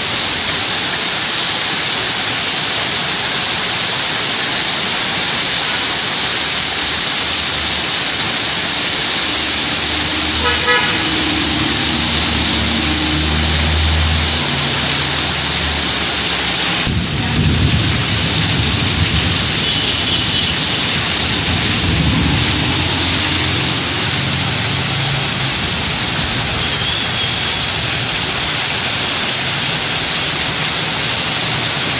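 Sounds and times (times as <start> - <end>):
heavy rain falling: 0.0 - 31.9
vehicles passing on wet street: 0.0 - 31.9.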